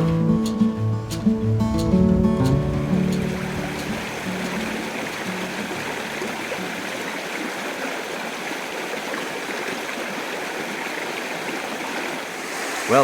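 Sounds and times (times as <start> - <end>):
creek water running: 2.4 - 13.0.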